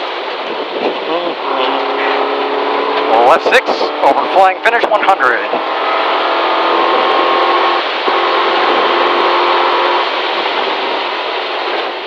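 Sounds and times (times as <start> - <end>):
car engine at high revs: 0.0 - 12.0
road noise: 0.0 - 12.0.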